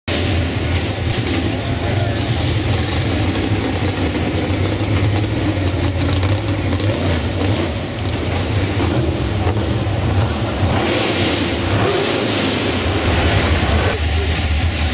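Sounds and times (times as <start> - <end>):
loud car engine at low revs: 0.1 - 14.9.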